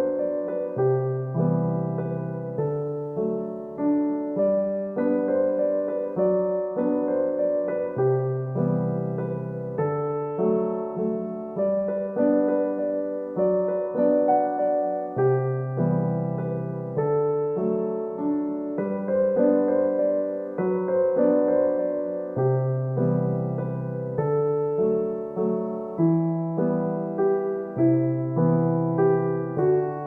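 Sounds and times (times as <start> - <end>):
gentle electric piano chords: 0.0 - 30.0.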